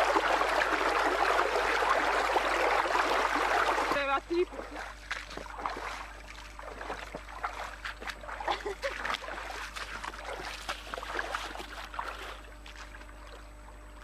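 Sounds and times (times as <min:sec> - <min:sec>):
boots wading through stream: 0:00.0 - 0:13.7.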